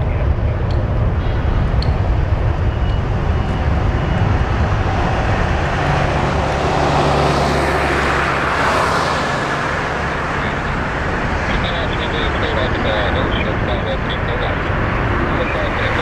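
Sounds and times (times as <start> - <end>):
jet engines at takeoff thrust: 0.0 - 16.0
low hum: 0.0 - 16.0.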